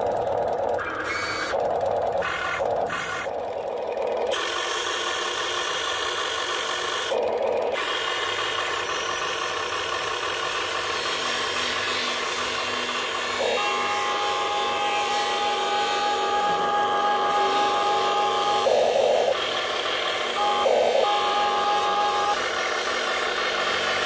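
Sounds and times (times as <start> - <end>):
high motor whine: 0.0 - 24.0
electric motors whirring: 0.3 - 24.0.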